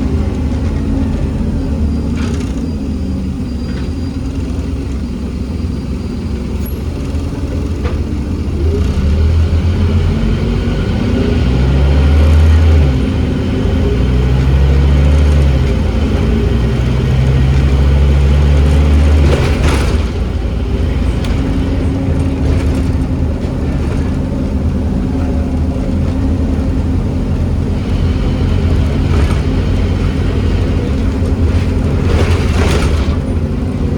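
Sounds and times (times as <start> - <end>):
bus diesel engine pulling: 0.0 - 33.9.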